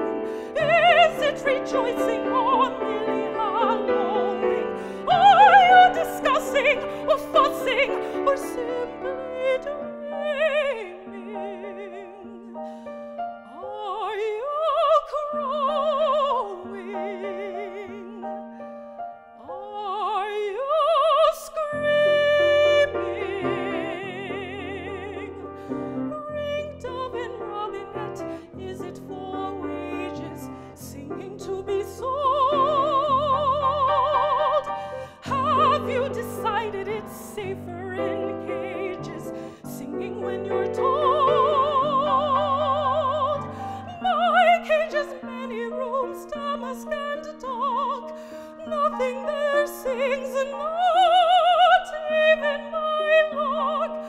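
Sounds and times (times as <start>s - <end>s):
grand piano: 0.0s - 54.0s
soprano singing operatically: 0.0s - 54.0s.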